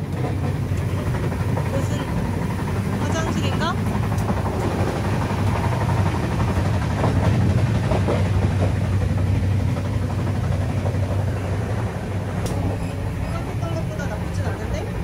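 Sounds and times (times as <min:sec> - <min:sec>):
train coach rumbling: 0:00.0 - 0:15.0.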